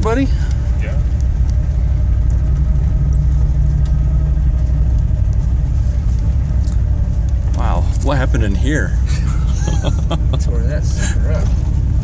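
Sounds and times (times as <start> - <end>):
low engine rumble inside vehicle: 0.0 - 12.0.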